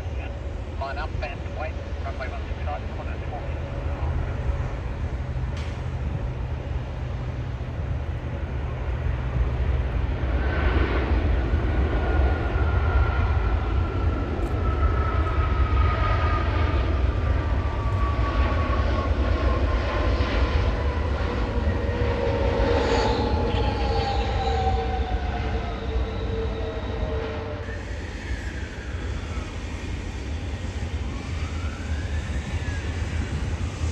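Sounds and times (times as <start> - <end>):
jet engine whine: 0.0 - 33.9
jet engines rumbling: 0.0 - 33.9.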